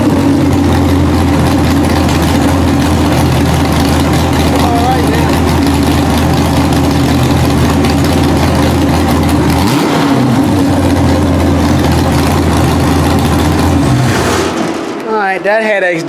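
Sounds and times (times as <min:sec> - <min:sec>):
tractor engine running and revving: 0:00.0 - 0:15.2.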